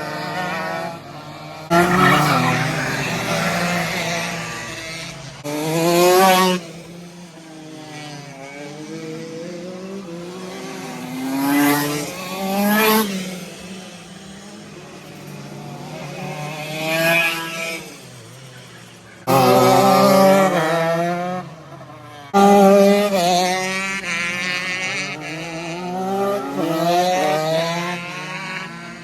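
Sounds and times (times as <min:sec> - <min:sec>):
kart engines revving: 0:00.0 - 0:29.0
karts passing by: 0:00.0 - 0:29.0.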